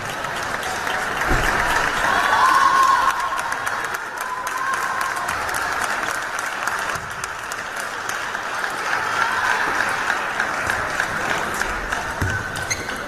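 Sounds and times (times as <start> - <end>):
spectators applauding: 0.0 - 13.0.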